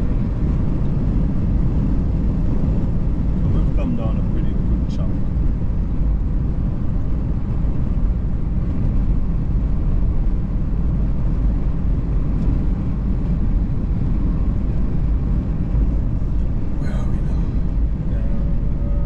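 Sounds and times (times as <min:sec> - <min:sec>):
road rumble inside moving car: 0:00.0 - 0:19.0.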